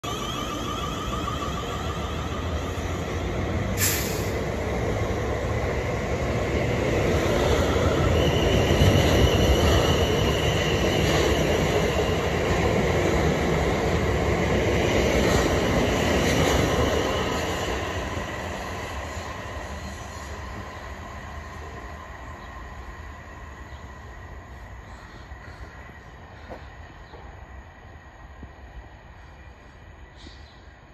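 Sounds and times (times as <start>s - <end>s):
electric train accelerating: 0.0s - 25.5s.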